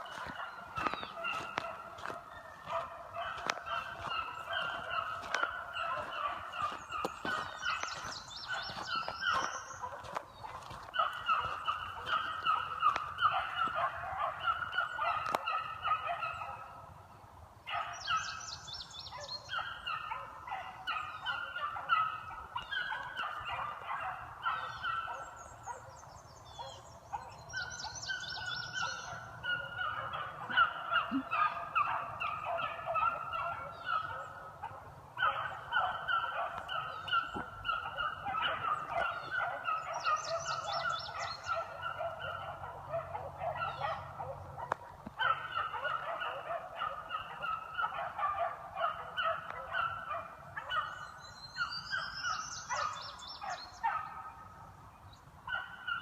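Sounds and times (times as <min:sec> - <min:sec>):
hounds baying: 0:00.0 - 0:17.0, 0:17.7 - 0:54.8, 0:55.4 - 0:56.0.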